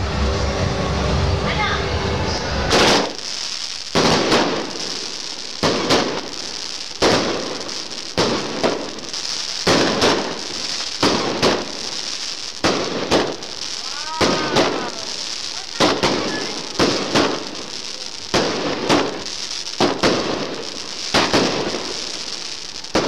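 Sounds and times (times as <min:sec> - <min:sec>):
firework pops: 0:02.7 - 0:23.0
hiss of burning sparks: 0:02.7 - 0:23.0.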